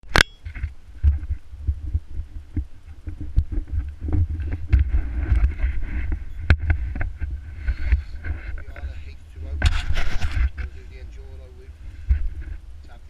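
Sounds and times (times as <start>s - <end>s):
wind buffeting microphone: 0.4s - 13.0s.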